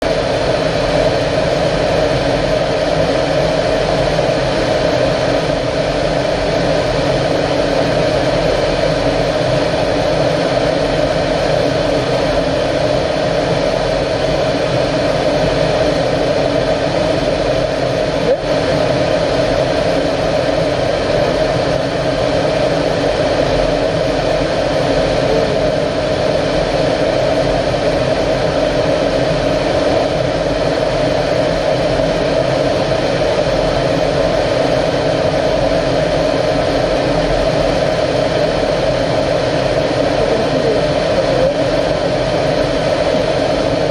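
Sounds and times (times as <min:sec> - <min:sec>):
jet engine drone in flight: 0:00.0 - 0:43.9.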